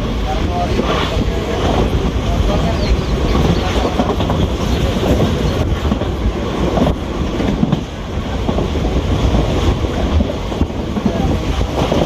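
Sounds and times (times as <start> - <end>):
train rumble with wheel clatter: 0.0 - 12.0.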